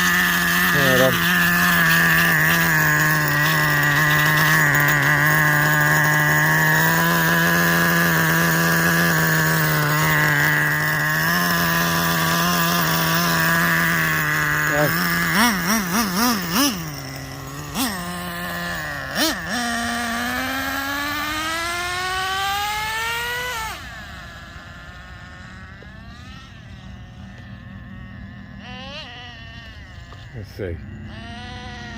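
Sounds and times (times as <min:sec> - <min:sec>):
small nitro engine buzzing and revving: 0:00.0 - 0:31.9.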